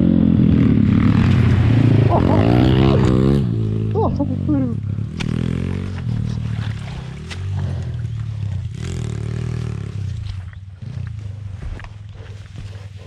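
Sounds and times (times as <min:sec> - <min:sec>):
motorbike engine at low revs: 0:00.0 - 0:13.0.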